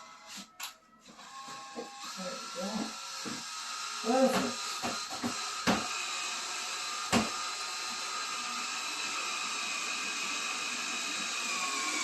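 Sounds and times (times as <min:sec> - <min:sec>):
cordless drill whirring: 0:00.0 - 0:12.0.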